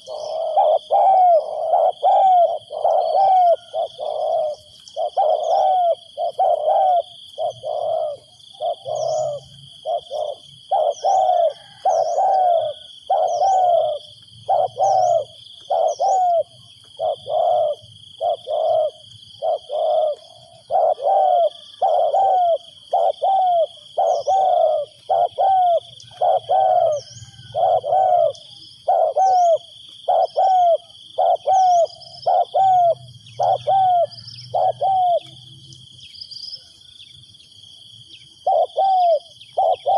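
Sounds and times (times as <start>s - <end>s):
dove cooing: 0.0s - 35.8s, 38.2s - 39.9s
faint small birds chirping: 0.0s - 39.9s
high insect drone: 0.0s - 39.9s.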